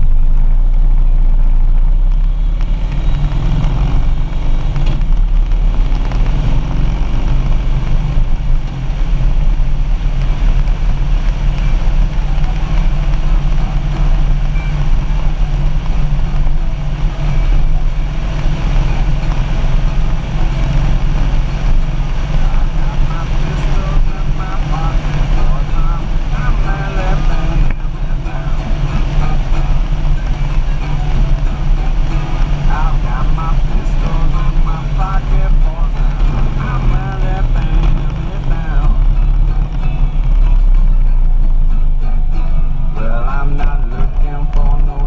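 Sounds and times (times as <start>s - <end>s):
motorcycle engine running: 0.0s - 45.0s
wind noise: 0.0s - 45.0s.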